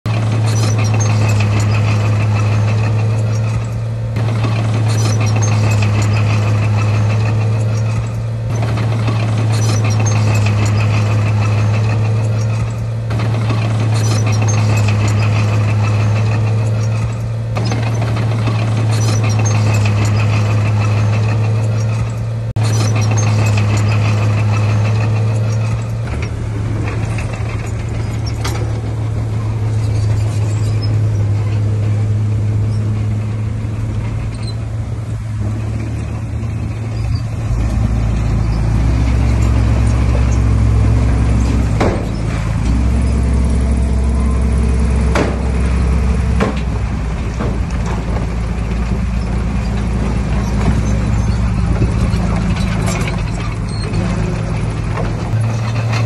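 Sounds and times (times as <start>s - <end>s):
diesel engine under load: 0.0s - 56.0s
metal clank: 0.3s - 34.7s, 35.4s - 56.0s.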